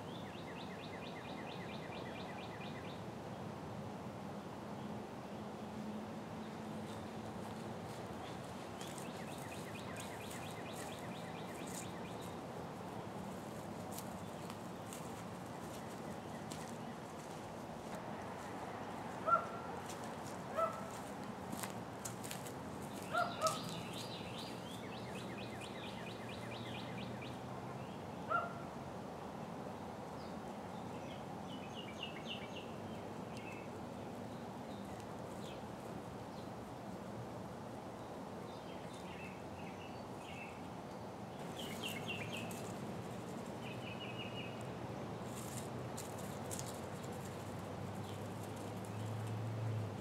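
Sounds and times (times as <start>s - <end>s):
songbirds chirping and trilling: 0.0s - 3.5s, 4.3s - 50.0s.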